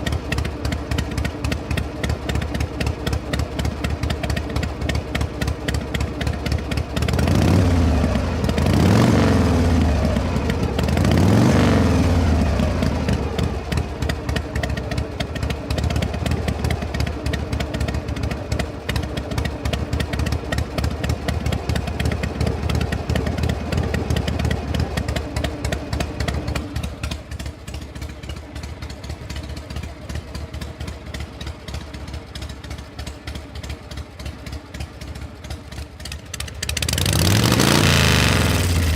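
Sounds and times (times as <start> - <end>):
vehicle engine idling and revving: 0.0 - 38.9.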